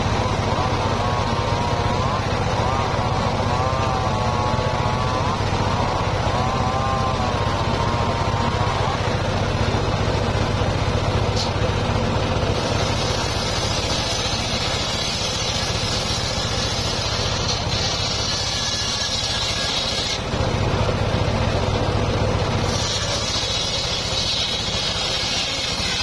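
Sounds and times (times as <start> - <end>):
circular saw blade cutting wood: 0.0 - 10.6, 11.3 - 11.8, 12.4 - 20.3, 22.6 - 26.0
saw motor drone: 0.0 - 26.0.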